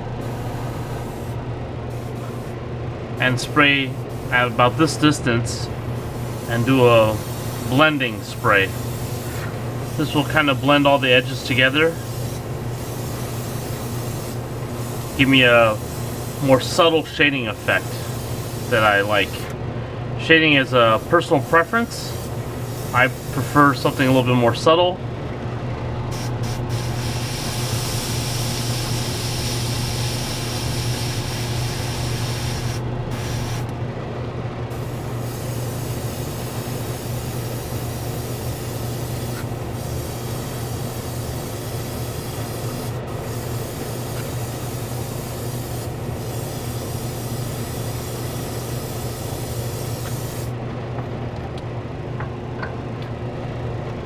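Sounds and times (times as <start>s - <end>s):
steady low hum: 0.0s - 54.0s
airbrush spraying hiss: 0.2s - 2.5s, 3.2s - 5.2s, 5.8s - 19.5s, 20.8s - 24.3s, 26.1s - 33.7s, 34.7s - 50.6s.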